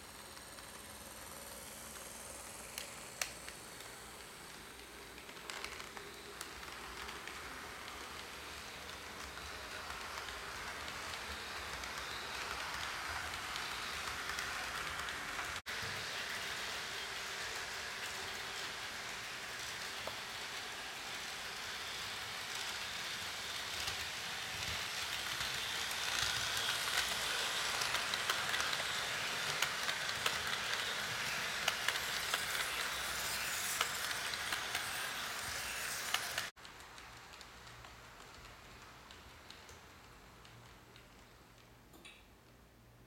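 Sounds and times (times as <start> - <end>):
model train motor hiss: 0.0 - 36.5
small clicks of wheels: 0.4 - 42.6.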